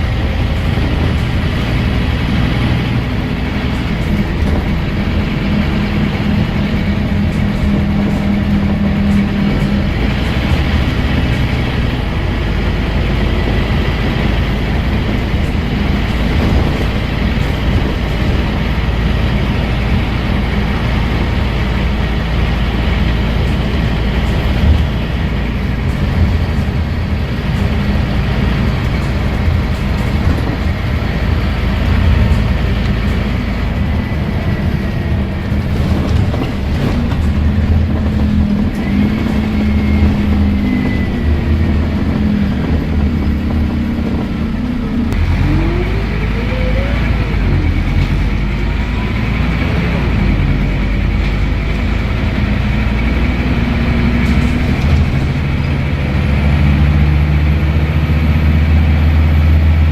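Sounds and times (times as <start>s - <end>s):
gearbox whine: 0.0s - 57.1s
bus diesel engine drone: 0.0s - 59.9s.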